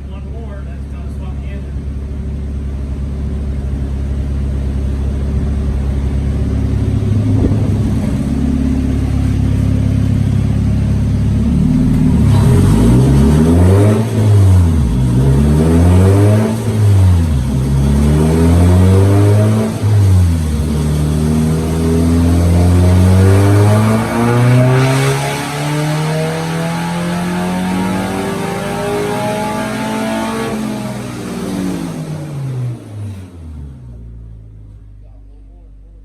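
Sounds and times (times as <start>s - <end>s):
car engine revving on dyno: 2.0s - 34.3s.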